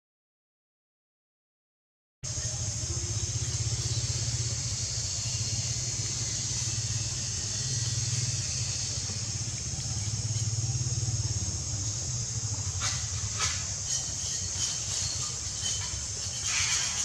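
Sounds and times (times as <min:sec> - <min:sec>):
high-pitched hiss: 0:02.2 - 0:17.0.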